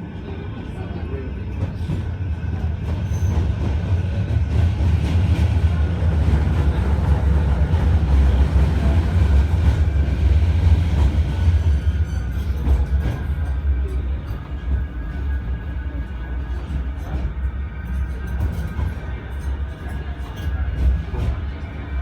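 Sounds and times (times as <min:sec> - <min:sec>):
tram wheels and motors rumbling: 0:00.0 - 0:22.0.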